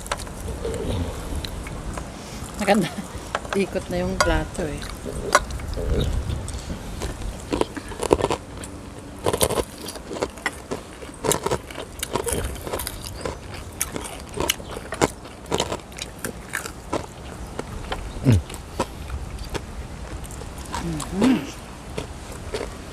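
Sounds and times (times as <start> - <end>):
chewing crispy fried food: 0.0 - 3.4, 4.6 - 22.9.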